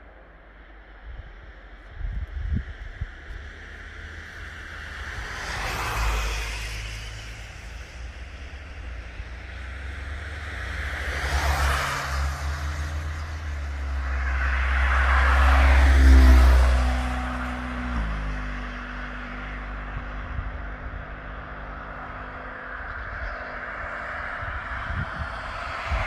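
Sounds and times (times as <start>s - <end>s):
cars passing by: 0.0s - 26.0s
wind rumble on microphone: 0.1s - 26.0s.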